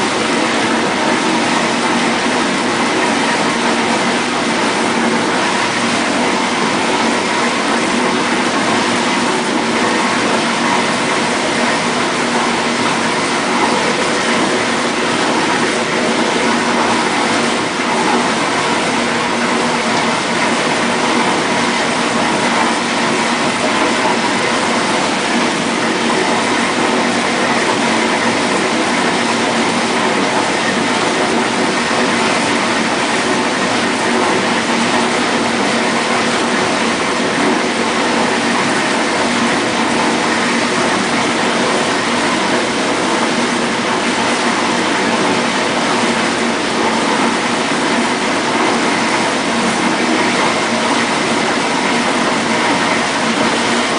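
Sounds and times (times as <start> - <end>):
water spraying in dishwasher: 0.0 - 53.9.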